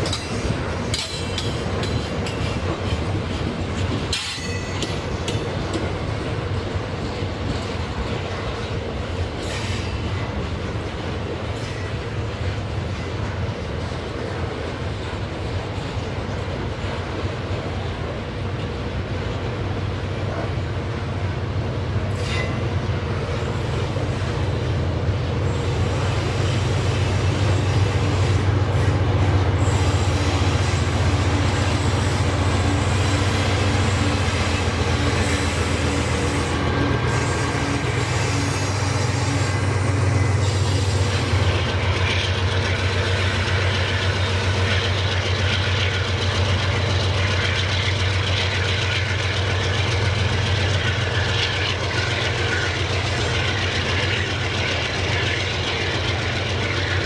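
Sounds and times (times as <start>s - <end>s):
train wheels clattering: 0.0s - 19.6s, 22.0s - 57.0s
freight train rumbling past: 0.0s - 57.0s.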